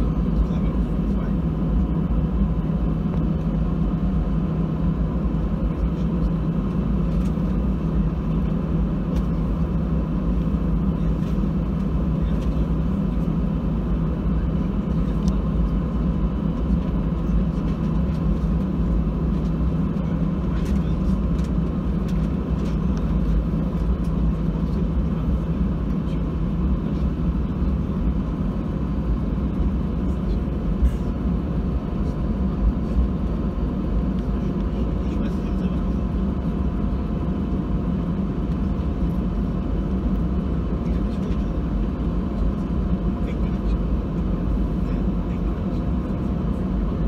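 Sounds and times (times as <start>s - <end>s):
jet engines droning: 0.0s - 47.0s
thin steady whine: 0.0s - 47.0s.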